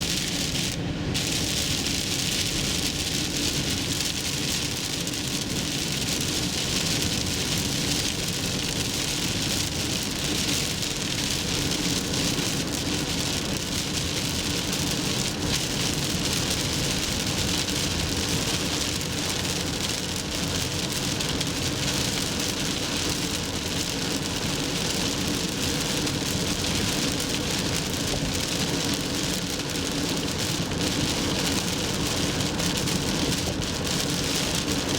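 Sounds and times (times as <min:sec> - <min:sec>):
heavy rain and tyre spray: 0:00.0 - 0:34.9
low road and engine rumble: 0:00.0 - 0:34.9.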